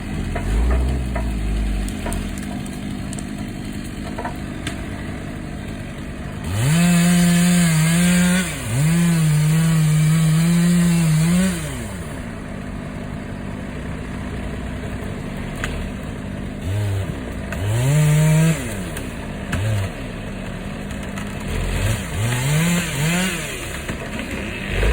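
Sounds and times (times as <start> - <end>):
chainsaw revving: 0.0 - 24.9.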